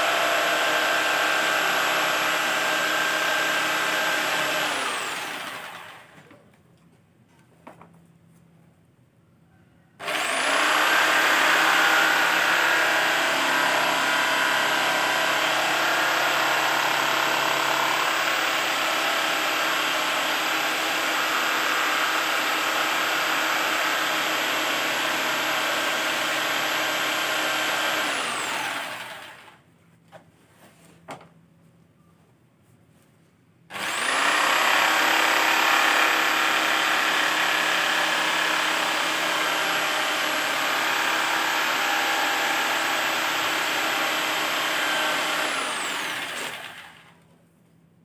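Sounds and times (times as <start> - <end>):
electric power tool whining: 0.0 - 6.2, 10.0 - 29.6, 33.7 - 47.2.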